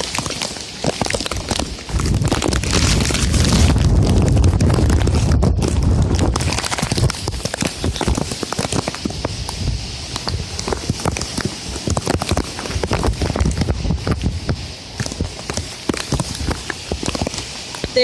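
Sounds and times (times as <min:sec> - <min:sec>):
rain ticking on microphone: 0:00.0 - 0:18.0
wind buffeting microphone: 0:00.0 - 0:18.0.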